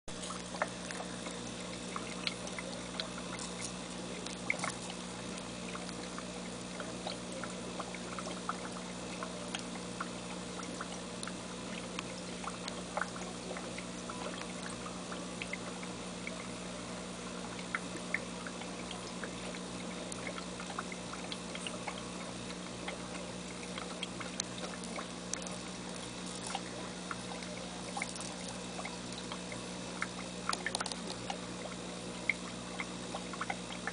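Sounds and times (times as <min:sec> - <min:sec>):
aquarium water bubbling: 0:00.1 - 0:33.9
small ticks and pops: 0:00.2 - 0:16.6, 0:17.3 - 0:33.9.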